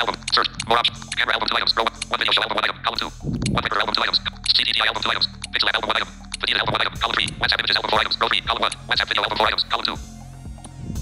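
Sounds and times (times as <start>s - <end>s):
rapid synthesized voice: 0.0s - 10.1s.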